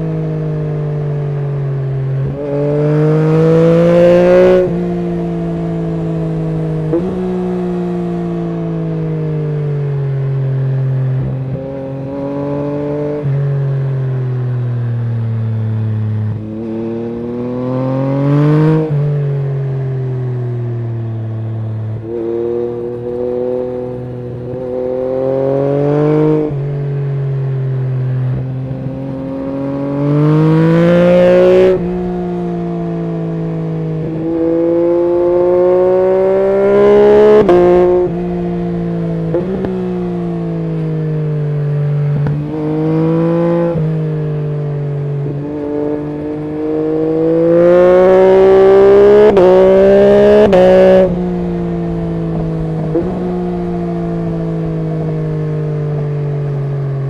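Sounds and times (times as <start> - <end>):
motorcycle engine accelerating hard: 0.0 - 57.0.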